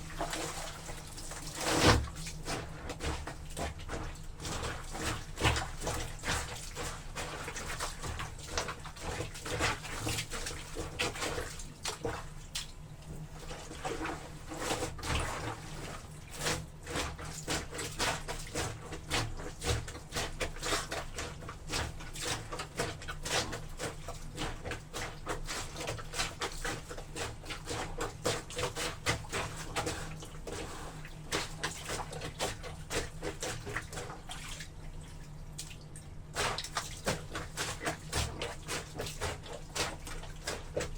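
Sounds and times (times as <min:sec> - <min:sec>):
laundry trodden in soapy water: 0:00.0 - 0:40.9.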